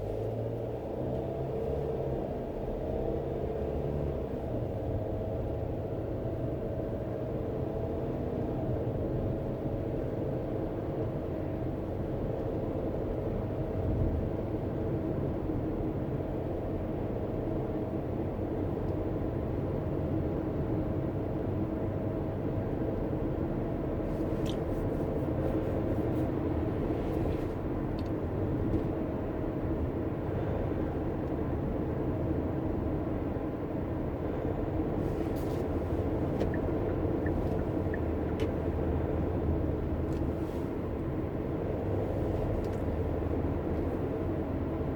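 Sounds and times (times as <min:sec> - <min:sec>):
car road and engine noise: 0:00.0 - 0:44.9.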